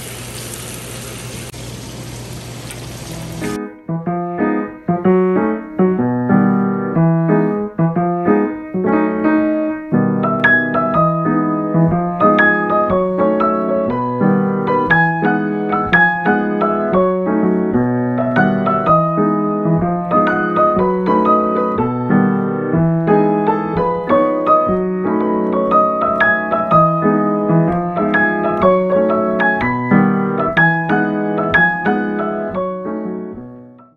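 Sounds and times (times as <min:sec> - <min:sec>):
solo piano music: 0:02.2 - 0:33.9.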